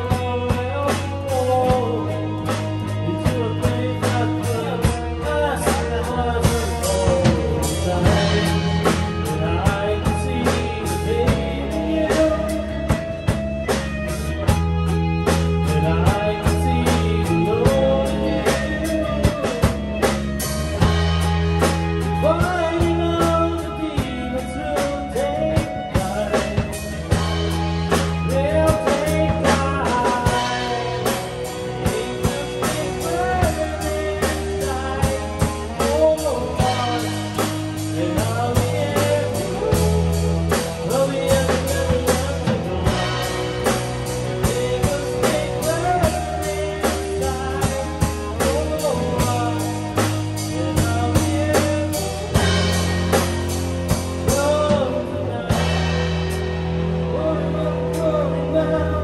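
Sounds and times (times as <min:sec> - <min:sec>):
blues-rock band playing: 0:00.0 - 0:59.0
lead guitar bending notes: 0:00.0 - 0:59.0.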